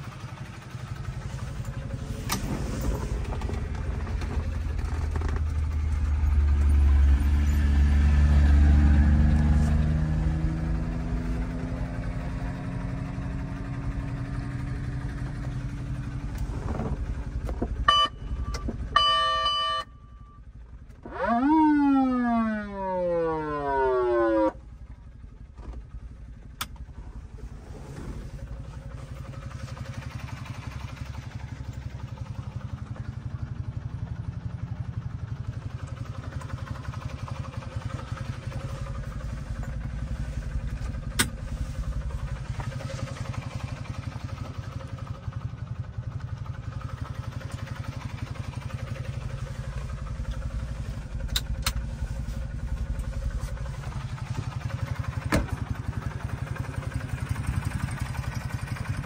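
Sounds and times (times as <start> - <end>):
small truck engine running: 0.0 - 59.0.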